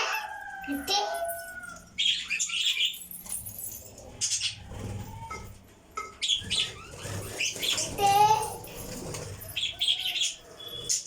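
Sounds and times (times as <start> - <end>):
lovebirds chirping: 0.7 - 11.0.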